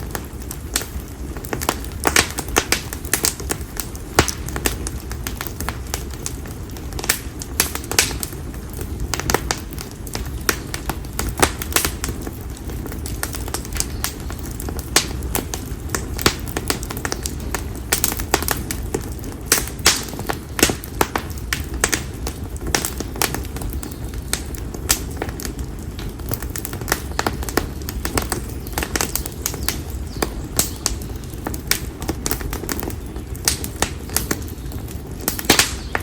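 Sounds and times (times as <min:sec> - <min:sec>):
campfire crackling and popping: 0:00.0 - 0:36.0
low rumble of flames: 0:00.0 - 0:36.0.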